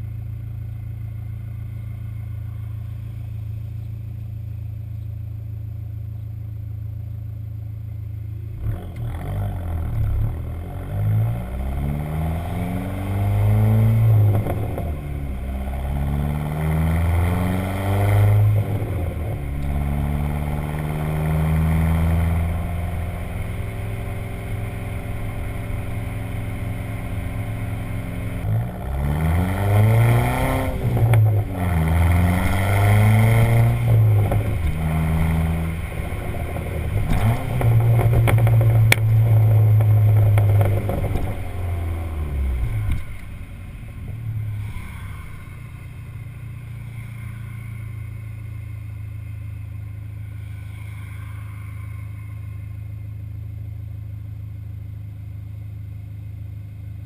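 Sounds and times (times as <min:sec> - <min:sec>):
exhaust crackles: 0:00.0 - 0:56.1
car engine idling and revving: 0:00.0 - 0:57.0.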